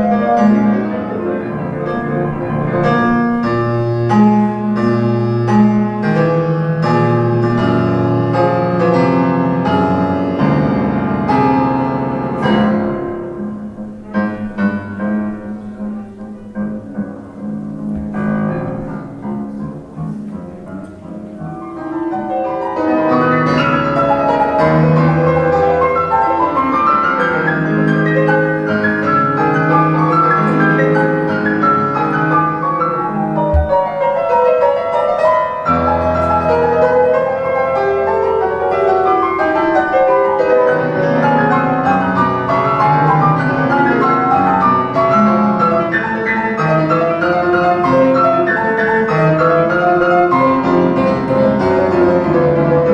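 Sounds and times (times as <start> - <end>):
classical piano music: 0.0 - 52.9.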